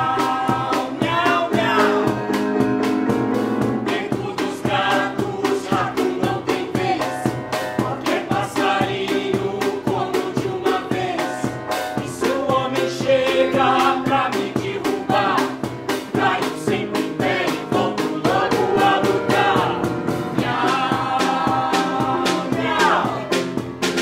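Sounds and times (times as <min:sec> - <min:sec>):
voices singing together: 0:00.0 - 0:02.9, 0:03.6 - 0:24.0
band playing a steady beat: 0:00.0 - 0:24.0.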